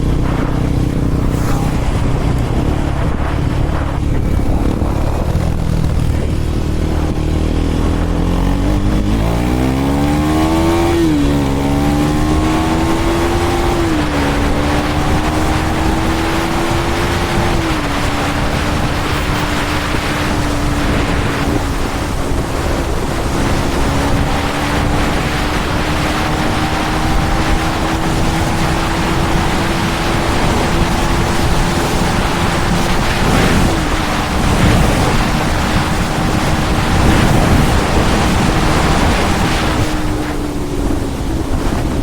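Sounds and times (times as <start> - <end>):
motorcycle engine cruising: 0.0 - 42.0
wind over microphone: 0.0 - 42.0.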